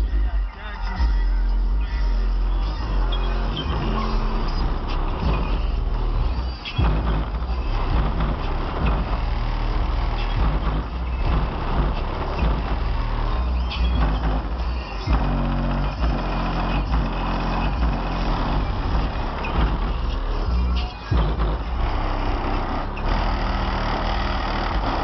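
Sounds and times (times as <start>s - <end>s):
deep car stereo bass: 0.0s - 25.0s
faint music: 0.0s - 25.0s.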